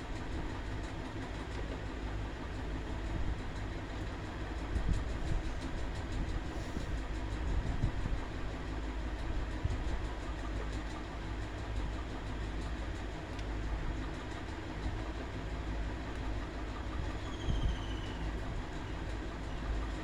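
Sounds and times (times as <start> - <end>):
mechanical rumble with low hum: 0.0 - 20.0.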